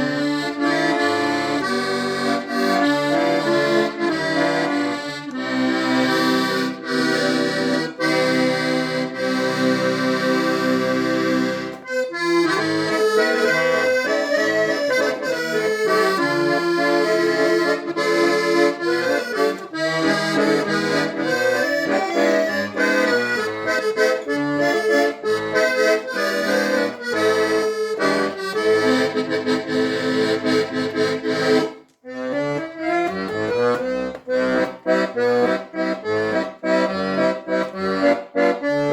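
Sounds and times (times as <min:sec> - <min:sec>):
accordion playing: 0:00.0 - 0:38.9.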